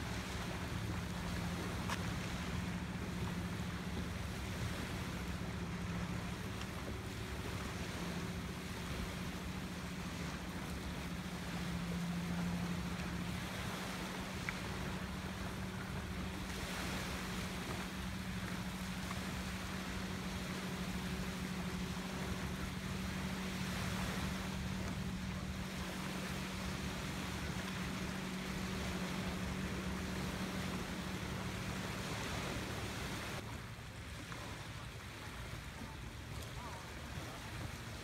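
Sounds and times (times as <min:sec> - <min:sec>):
small waves on shore: 0:00.0 - 0:38.0
steady low hum: 0:00.0 - 0:38.0
wind: 0:00.0 - 0:38.0.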